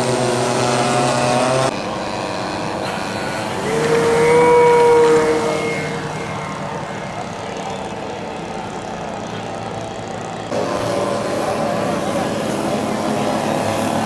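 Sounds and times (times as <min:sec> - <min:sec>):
model aircraft engine tone: 0:00.0 - 0:14.0
rushing engine noise: 0:00.0 - 0:14.0
second engine tone: 0:00.0 - 0:14.0.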